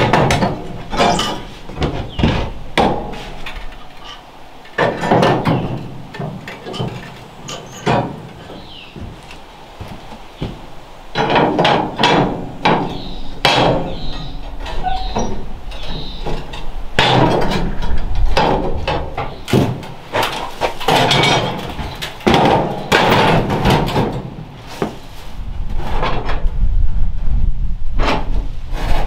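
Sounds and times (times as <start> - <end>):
heavy metal parts clanking: 0.0 - 24.6.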